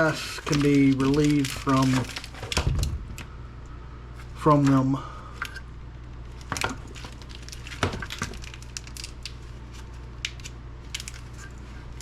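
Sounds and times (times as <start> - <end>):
knocks and rustles of wire: 0.0 - 3.3, 4.3 - 12.0.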